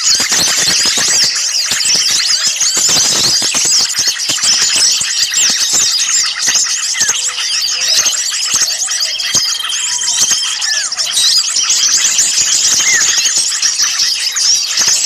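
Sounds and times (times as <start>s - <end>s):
small birds chattering: 0.0s - 15.0s.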